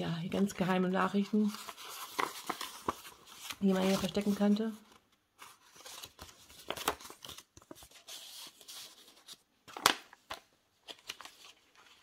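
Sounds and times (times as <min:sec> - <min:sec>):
paper pages rustling: 0:00.6 - 0:12.0.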